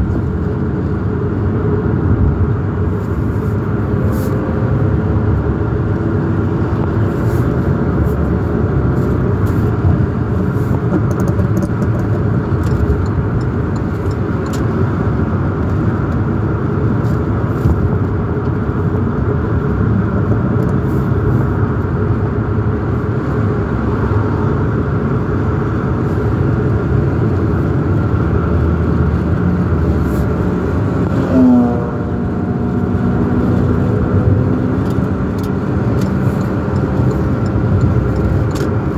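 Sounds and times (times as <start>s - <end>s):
sports car engine rattling: 0.0s - 38.9s.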